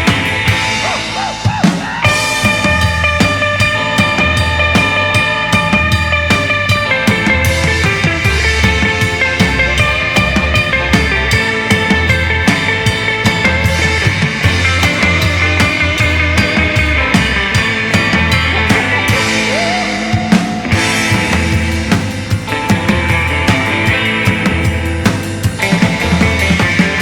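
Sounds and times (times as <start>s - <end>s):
drum kit beat: 0.0s - 27.0s
surf rock band playing: 0.0s - 27.0s.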